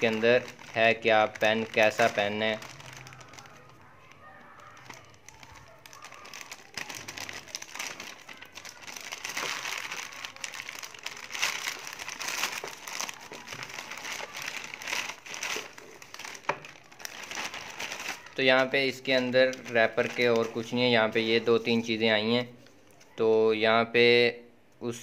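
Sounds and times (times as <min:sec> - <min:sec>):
plastic bag crinkling: 0:00.0 - 0:23.1.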